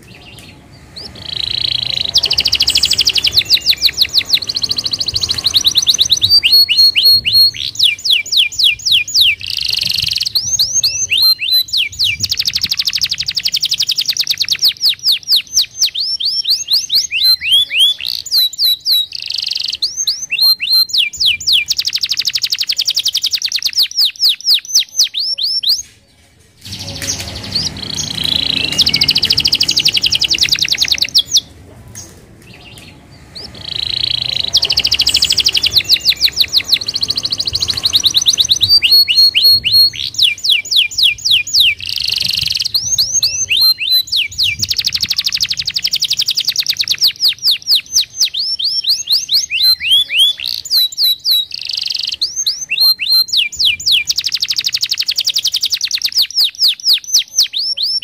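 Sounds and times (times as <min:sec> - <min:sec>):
canary singing trills: 0:00.0 - 0:25.9, 0:26.6 - 0:58.0.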